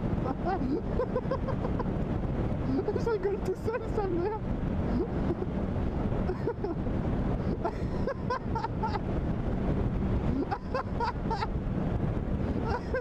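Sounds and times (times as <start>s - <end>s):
low engine hum: 0.0s - 13.0s
wind rushing over microphone: 0.0s - 13.0s.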